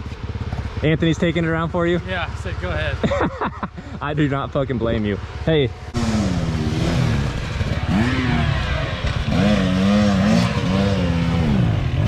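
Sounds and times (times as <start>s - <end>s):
dirt bike engine revving: 0.1s - 12.0s.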